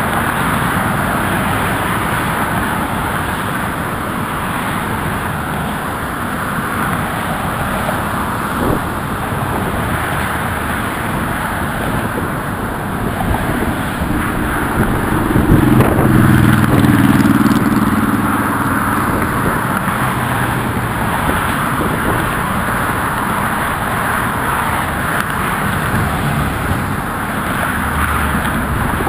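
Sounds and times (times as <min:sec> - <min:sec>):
traffic rush: 0:00.0 - 0:29.0
wind: 0:00.0 - 0:29.0
car engine passing close: 0:05.4 - 0:29.0.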